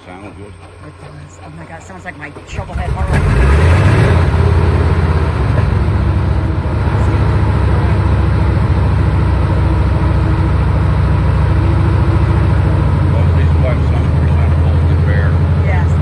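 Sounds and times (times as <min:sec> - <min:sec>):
radial engine rumbling: 0:00.0 - 0:16.0.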